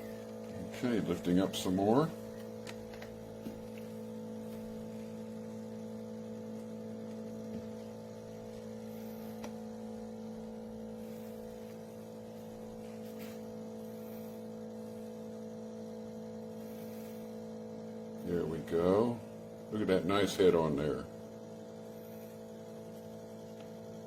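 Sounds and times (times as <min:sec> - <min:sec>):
espresso machine humming: 0:00.0 - 0:24.0.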